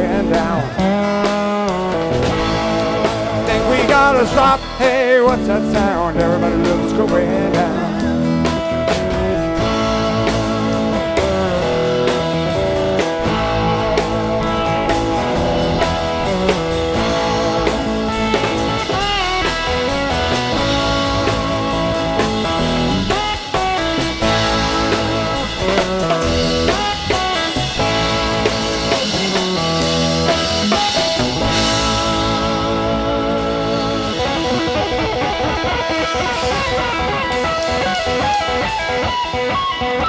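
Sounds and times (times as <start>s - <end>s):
electric guitar bent notes: 0.0s - 40.0s
rock band playing: 0.0s - 40.0s.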